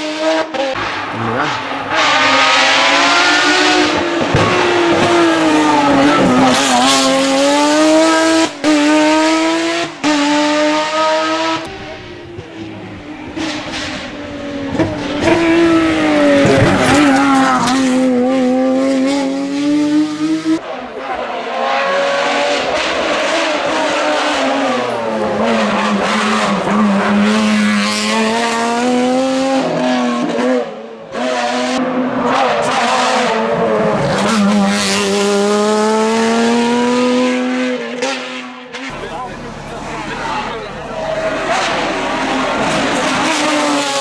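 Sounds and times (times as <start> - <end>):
racing car engine at high revs: 0.0 - 44.0.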